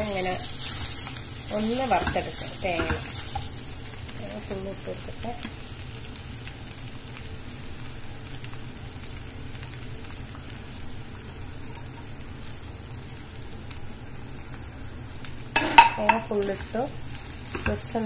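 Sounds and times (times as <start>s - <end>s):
food frying in a pan: 0.0s - 18.0s.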